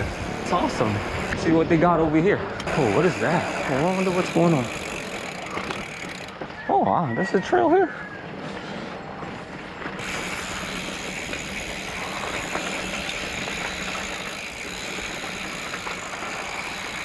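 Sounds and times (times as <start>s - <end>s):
bike tyre and drivetrain rattle: 0.0s - 17.0s.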